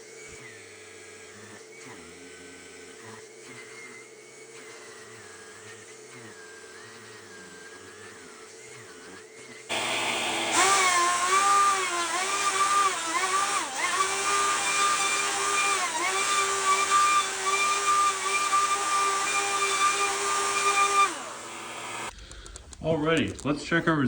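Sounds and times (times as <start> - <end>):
wood router whining: 0.0 - 22.2.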